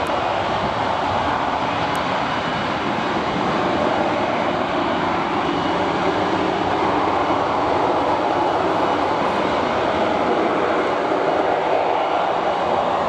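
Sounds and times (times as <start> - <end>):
jet engine running: 0.0 - 13.0.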